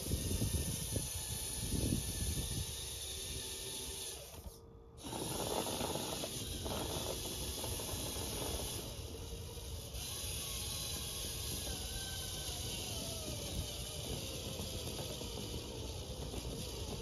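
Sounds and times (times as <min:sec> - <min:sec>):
steady outdoor background noise: 0:00.0 - 0:17.0.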